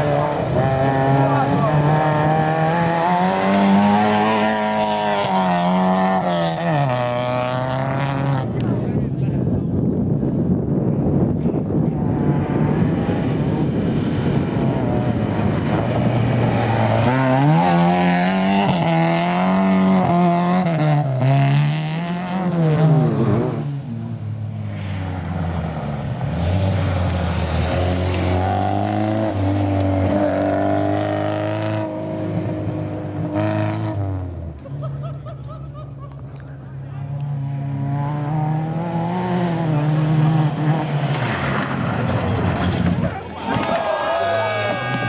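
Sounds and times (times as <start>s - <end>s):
rally car engine revving: 0.0s - 9.1s, 11.3s - 35.4s, 36.1s - 43.3s.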